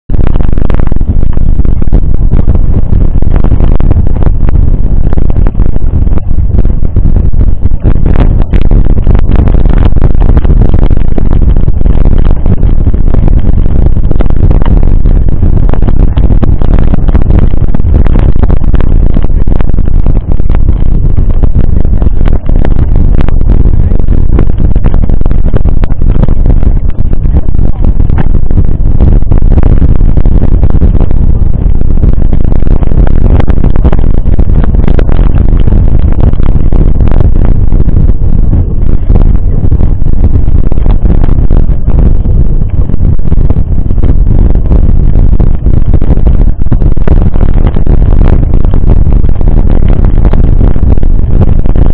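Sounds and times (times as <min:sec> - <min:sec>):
wind rumble on microphone: 0:00.0 - 0:51.9.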